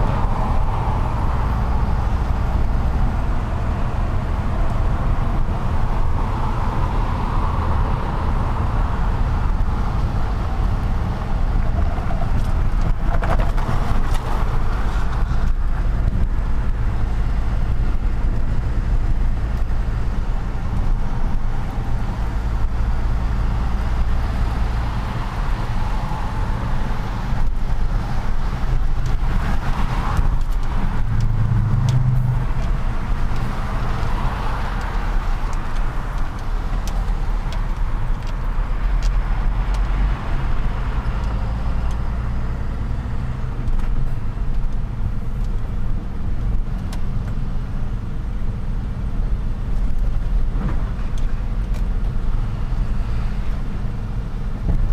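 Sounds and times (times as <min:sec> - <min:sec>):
road noise: 0:00.0 - 0:54.9.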